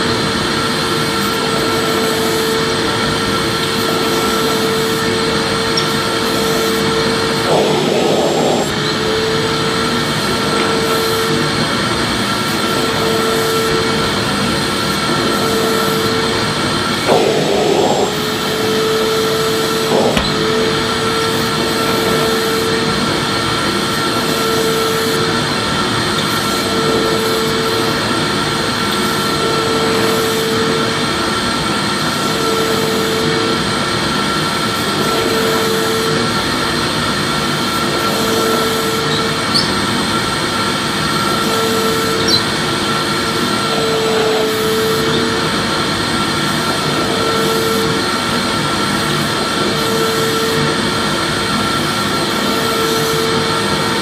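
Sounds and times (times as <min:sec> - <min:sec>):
vacuum cleaner motor whining: 0:00.0 - 0:54.0.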